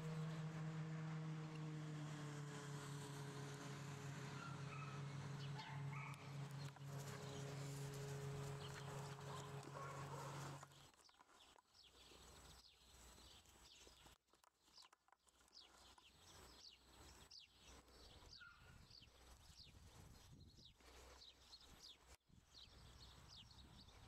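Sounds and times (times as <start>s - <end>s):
small birds chirping faintly: 4.3s - 24.0s.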